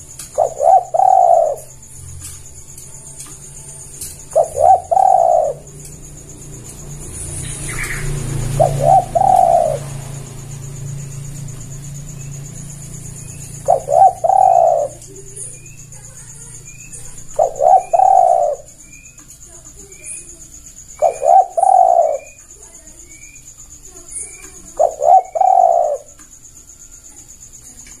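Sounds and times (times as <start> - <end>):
dove cooing: 0.0 - 26.2.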